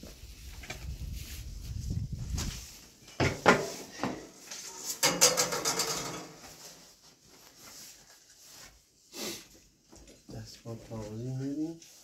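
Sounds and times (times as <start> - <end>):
quiet shuffling: 0.0 - 5.0, 6.4 - 12.0.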